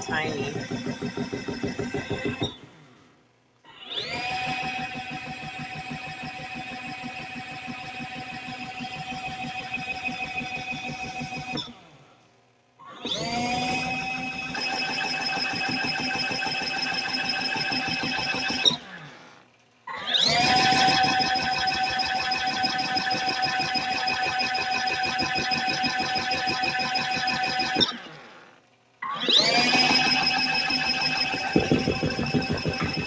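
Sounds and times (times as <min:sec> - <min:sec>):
washing machine spin motor whining: 0:00.0 - 0:03.1, 0:03.7 - 0:12.2, 0:12.8 - 0:33.0.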